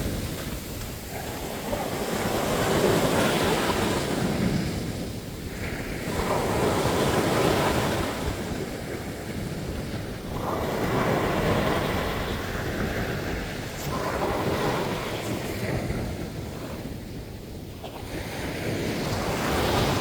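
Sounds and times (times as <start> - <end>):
waves breaking on sandy beach: 0.0 - 20.0.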